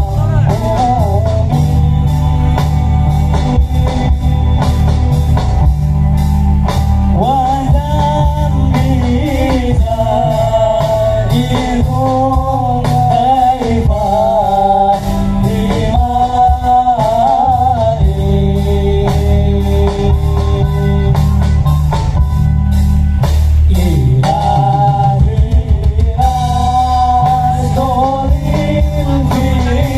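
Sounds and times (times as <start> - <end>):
person singing: 0.0 - 4.8, 7.1 - 21.5, 23.6 - 29.9
live band music: 0.0 - 29.9.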